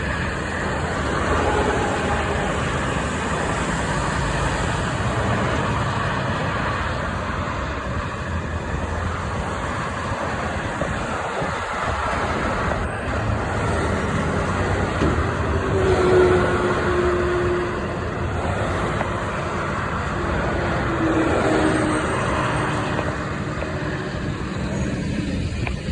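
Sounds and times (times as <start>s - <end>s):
street traffic: 0.0s - 25.9s.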